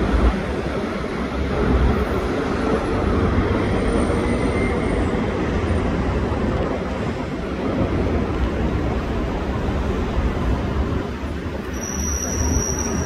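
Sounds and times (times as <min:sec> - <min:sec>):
distant city traffic hum: 0:00.0 - 0:13.0.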